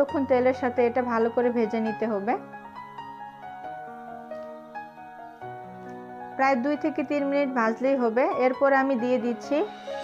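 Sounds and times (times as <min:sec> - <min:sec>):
soft instrumental melody: 0:00.0 - 0:10.0.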